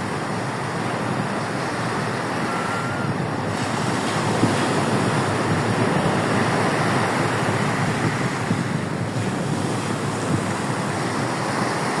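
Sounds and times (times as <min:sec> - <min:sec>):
surf breaking on a beach: 0:00.0 - 0:12.0
wind: 0:00.0 - 0:12.0.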